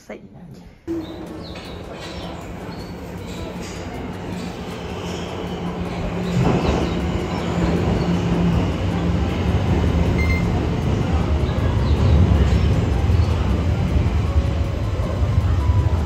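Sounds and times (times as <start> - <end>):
subway train rumble: 0.9 - 16.0.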